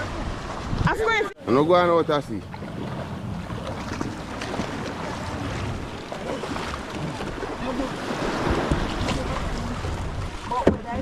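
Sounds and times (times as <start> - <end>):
wind buffeting microphone: 0.0 - 1.4, 2.0 - 11.0
water washing and splashing: 0.0 - 11.0.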